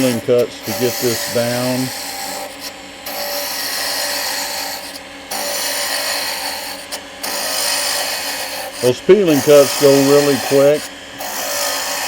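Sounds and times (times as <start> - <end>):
lathe humming: 0.0 - 12.0
lathe tool cutting wood: 0.0 - 12.0.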